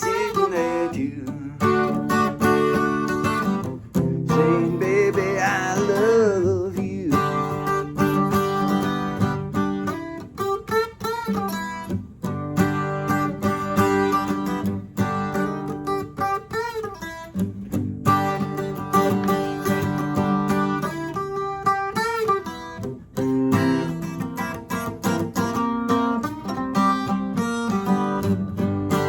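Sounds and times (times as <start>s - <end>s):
strummed acoustic guitar chords: 0.0s - 29.0s
wavering lead guitar notes: 0.0s - 29.0s.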